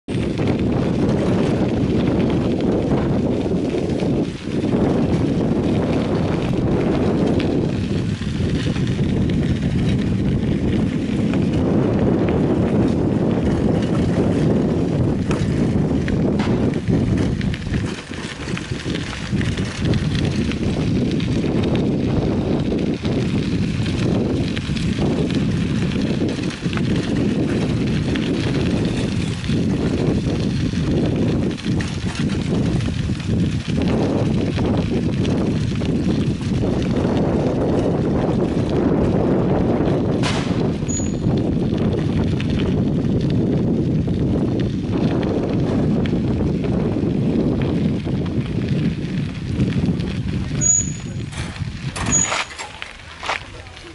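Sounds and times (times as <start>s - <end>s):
bike rumbling and rattling: 0.0s - 53.9s
wind buffeting microphone: 0.0s - 53.9s.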